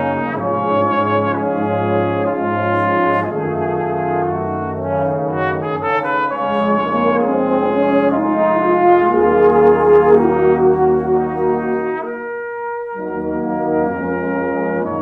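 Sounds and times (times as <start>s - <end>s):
cornet playing slow melody: 0.0s - 15.0s.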